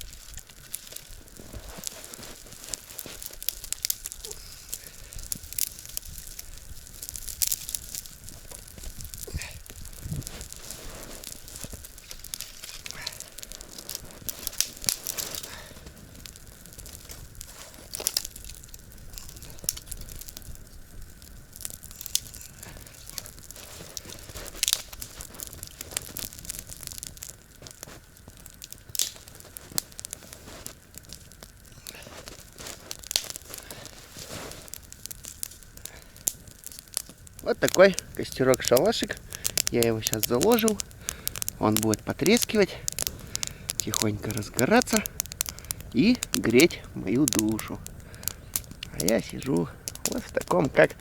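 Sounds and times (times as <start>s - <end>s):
dry twigs snapping and rustling: 0.0s - 51.0s.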